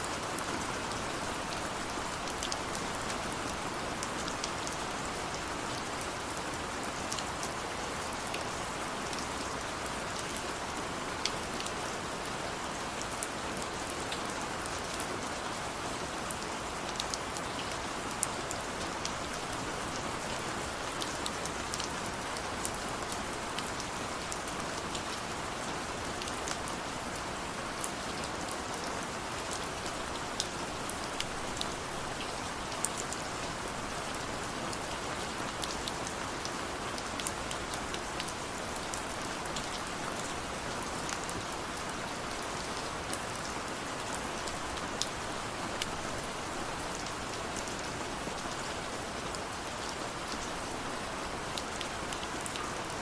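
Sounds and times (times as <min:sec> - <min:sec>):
steady rain hiss: 0:00.0 - 0:53.0
raindrops ticking on a surface: 0:00.1 - 0:53.0.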